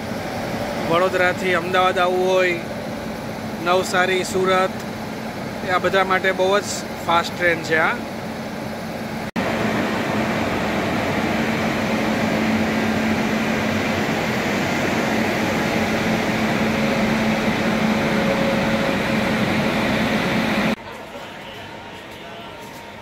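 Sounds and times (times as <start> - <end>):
passenger train running: 0.0 - 23.0.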